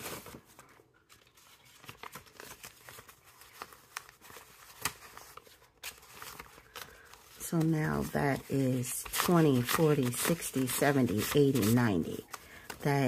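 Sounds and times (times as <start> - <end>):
banknotes rustling: 0.0 - 13.0.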